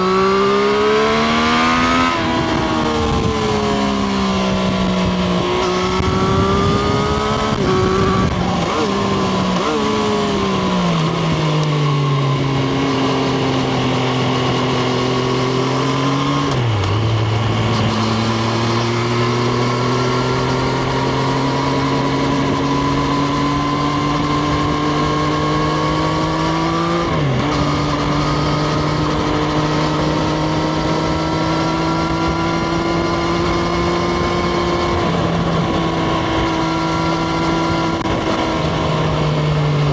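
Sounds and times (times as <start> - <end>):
motorcycle engine: 0.0 - 39.9
quick gear upshifts: 0.0 - 39.9.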